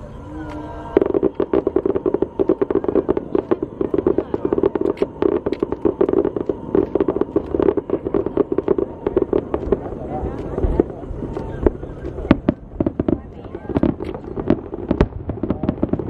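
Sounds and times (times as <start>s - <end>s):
fireworks bangs and pops: 0.4s - 16.0s.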